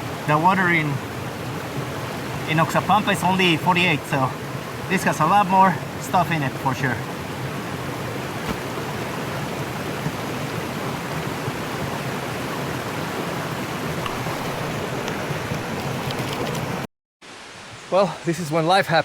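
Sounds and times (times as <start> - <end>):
mountain stream water rushing: 0.0 - 19.0.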